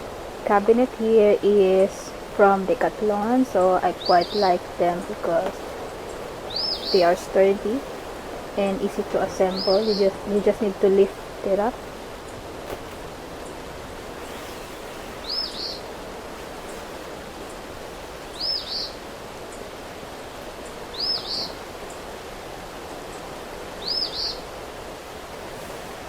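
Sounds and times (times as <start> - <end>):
rain: 0.0 - 26.0
bird calling: 1.6 - 19.7, 20.6 - 22.0, 23.1 - 24.6.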